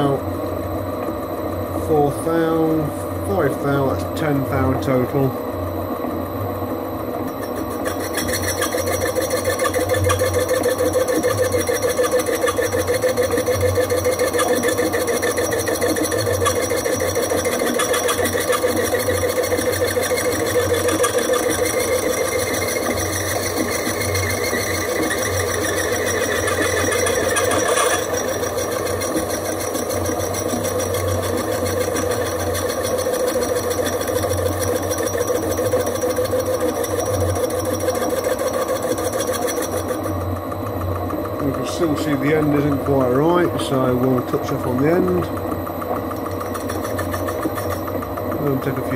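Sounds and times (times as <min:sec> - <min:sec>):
metal lathe cutting: 0:07.1 - 0:48.9.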